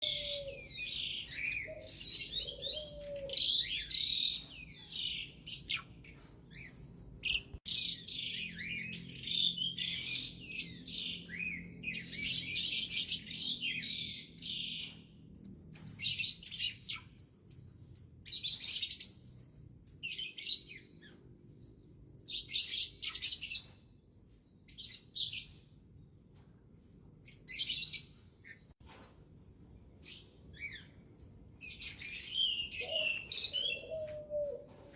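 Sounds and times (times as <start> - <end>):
songbird chirping: 0.0 - 34.9.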